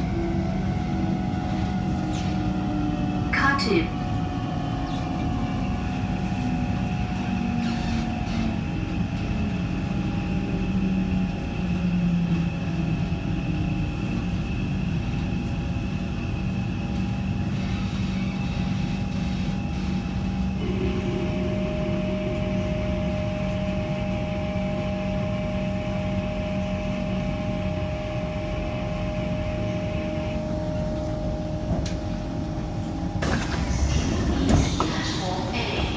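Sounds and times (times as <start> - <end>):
train low rumble: 0.0 - 35.9.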